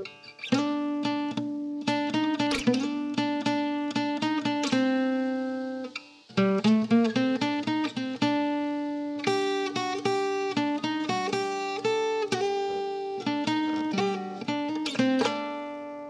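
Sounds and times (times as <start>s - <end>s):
plucked string music: 0.0s - 16.0s.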